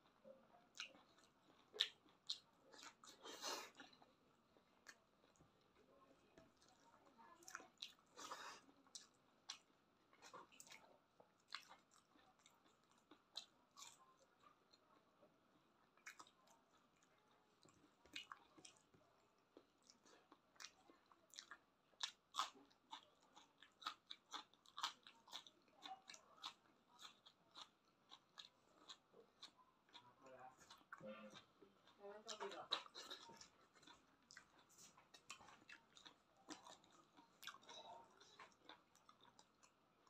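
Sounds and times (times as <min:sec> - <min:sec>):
person chewing and crunching: 0:00.0 - 0:40.0.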